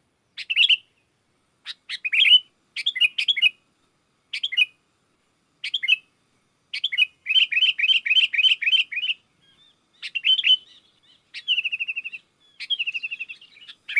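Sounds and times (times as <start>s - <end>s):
birds chirping: 0.0s - 4.8s, 5.6s - 13.9s
bird trill: 0.3s - 3.6s, 4.3s - 4.8s, 5.6s - 6.1s, 6.7s - 13.9s.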